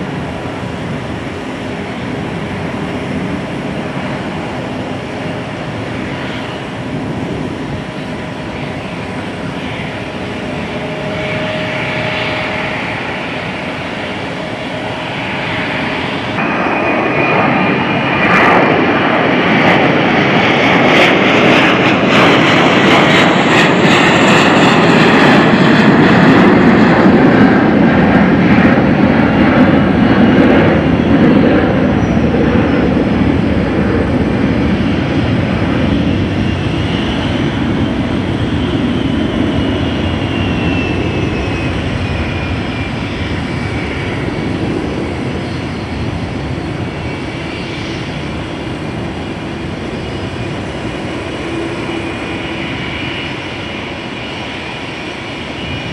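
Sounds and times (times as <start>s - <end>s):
jet airliner engine noise: 0.0s - 55.9s.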